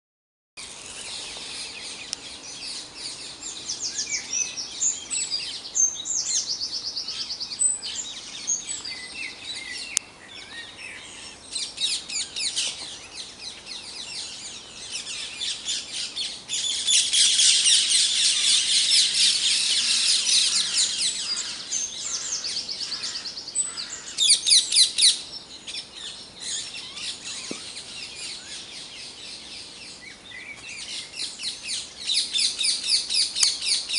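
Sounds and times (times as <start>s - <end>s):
songbirds singing: 0.6s - 33.9s.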